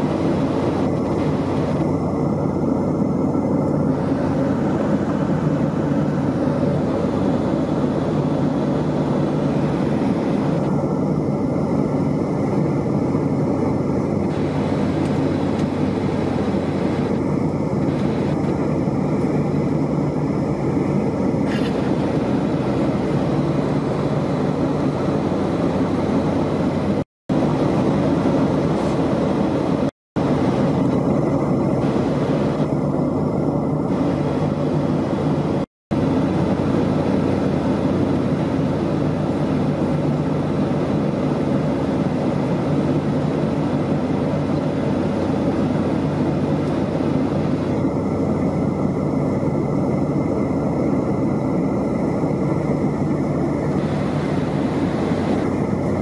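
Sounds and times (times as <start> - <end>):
air rushing along fuselage: 0.0 - 56.0
jet engine hum: 0.0 - 56.0.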